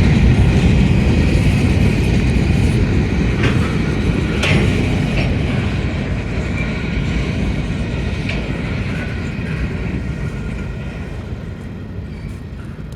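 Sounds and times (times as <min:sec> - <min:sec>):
train wheels on track: 0:00.0 - 0:12.9.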